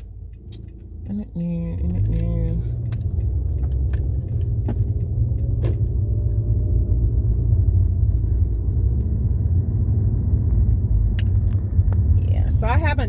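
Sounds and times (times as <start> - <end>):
car cabin road and engine drone: 0.0 - 13.0.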